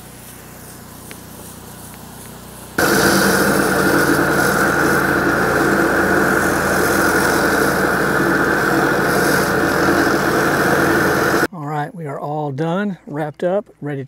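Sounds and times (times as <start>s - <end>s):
pressure washer engine running: 0.0s - 11.5s.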